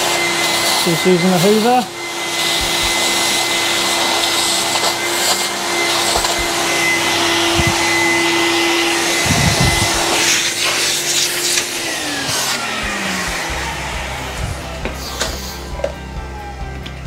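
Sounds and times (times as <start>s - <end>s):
shop vacuum humming: 0.0s - 17.0s.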